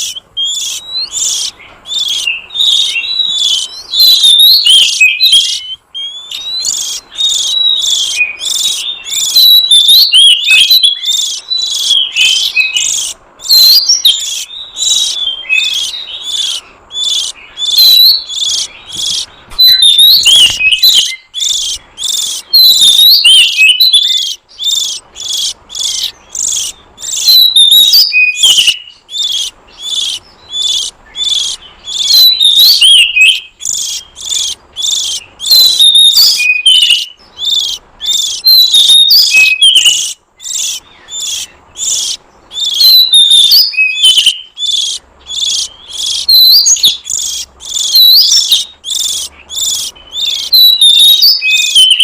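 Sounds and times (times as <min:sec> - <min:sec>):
bird chirping and whistling: 0:00.0 - 0:52.0.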